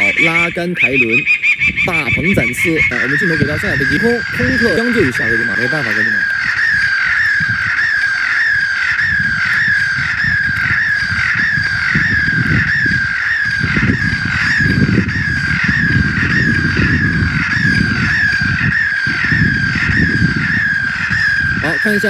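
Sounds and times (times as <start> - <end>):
electronic bird repeller chirping: 0.0 - 22.0.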